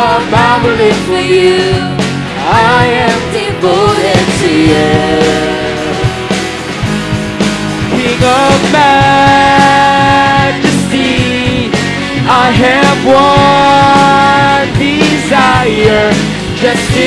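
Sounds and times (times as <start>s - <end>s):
voices singing together: 0.0s - 6.4s, 7.9s - 17.0s
drum kit: 0.0s - 17.0s
electric guitars: 0.0s - 17.0s
keyboard: 0.0s - 17.0s.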